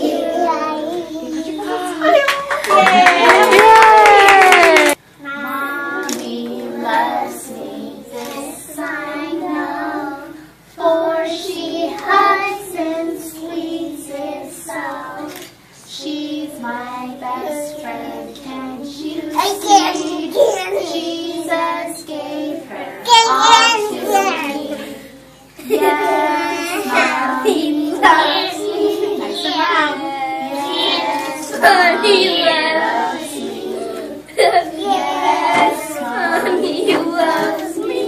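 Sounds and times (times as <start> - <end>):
children singing: 0.0 - 2.2, 5.2 - 38.0.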